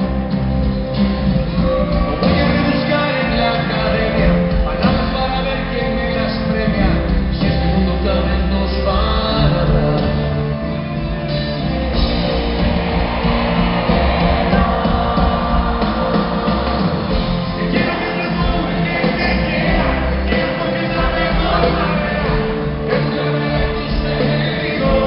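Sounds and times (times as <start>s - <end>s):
live pop-rock band: 0.0s - 25.0s
male singer: 1.6s - 11.4s, 14.4s - 25.0s.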